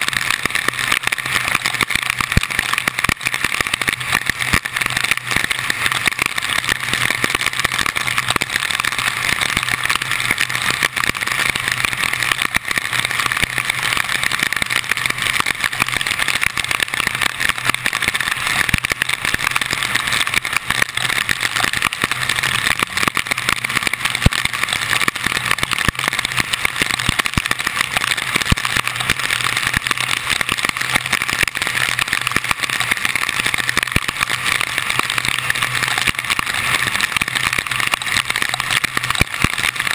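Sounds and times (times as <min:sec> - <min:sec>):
raindrops ticking on camera: 0:00.0 - 0:39.9.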